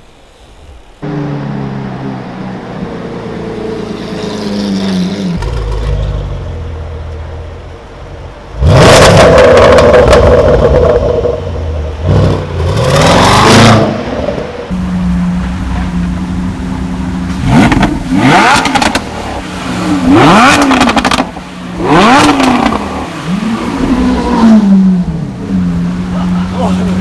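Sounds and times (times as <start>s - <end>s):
sports car engine revving: 1.0s - 27.0s.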